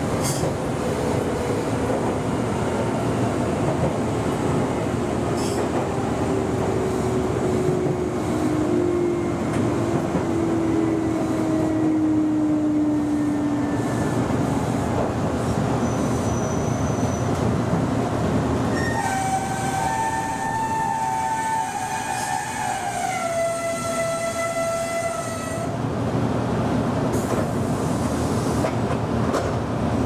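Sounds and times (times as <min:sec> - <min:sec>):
electric train rumbling: 0:00.0 - 0:30.0.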